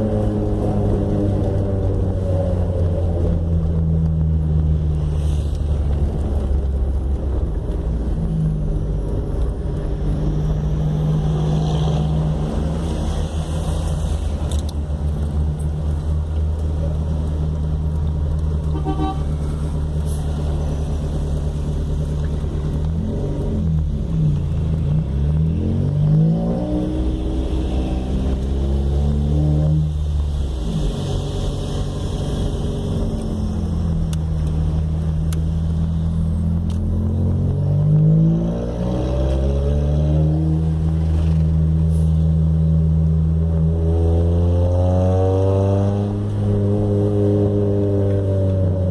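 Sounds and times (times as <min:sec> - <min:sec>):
car engine idling and revving: 0:00.0 - 0:48.9.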